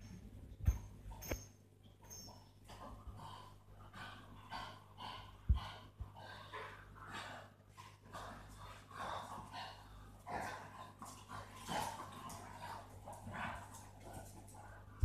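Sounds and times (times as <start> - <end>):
dogs breathing rapidly: 2.1 - 15.0.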